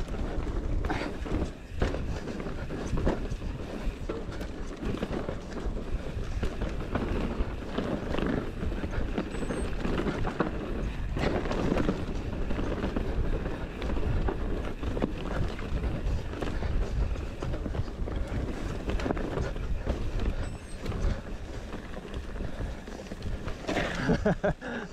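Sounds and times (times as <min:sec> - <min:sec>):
wind buffeting microphone: 0:00.0 - 0:24.4
bike rattling over bumps: 0:00.0 - 0:24.8
bike tyres on dirt: 0:00.0 - 0:24.9.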